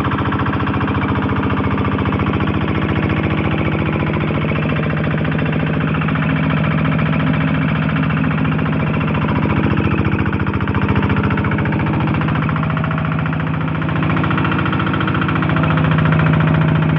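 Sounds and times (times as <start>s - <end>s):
diesel engine driving water pump: 0.0s - 16.9s.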